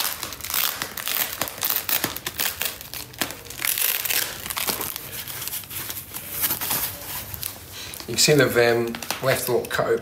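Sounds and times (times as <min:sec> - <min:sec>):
foam wrap crinkling: 0:00.0 - 0:10.0.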